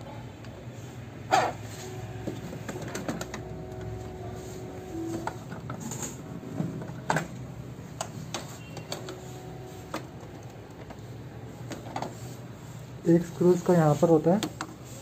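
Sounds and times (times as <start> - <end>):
faint steady hum: 0.0 - 13.7.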